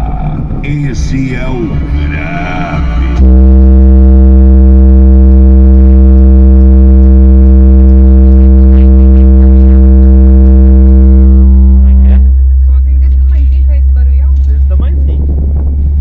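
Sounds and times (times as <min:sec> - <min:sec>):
held bass note from car speakers: 0:00.0 - 0:16.0.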